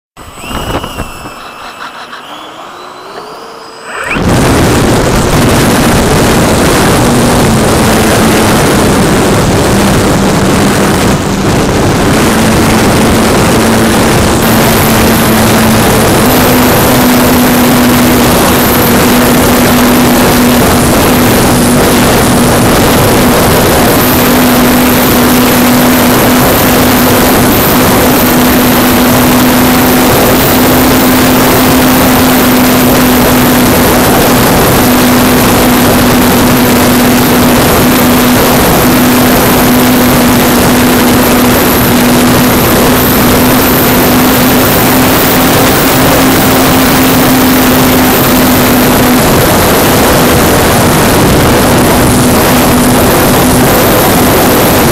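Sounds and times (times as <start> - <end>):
faint rising whine: 0.0 - 54.9
motor drone: 0.0 - 54.9
propeller wash and wind: 0.2 - 54.9.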